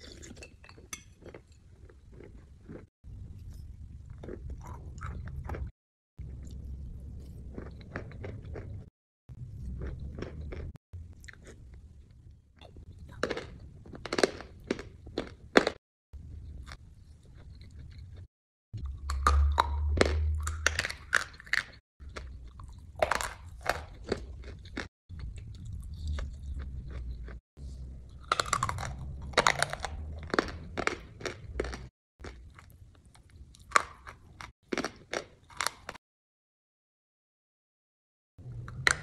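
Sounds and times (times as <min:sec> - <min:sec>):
crunchy food chewing: 0:00.0 - 0:12.2, 0:12.8 - 0:36.0.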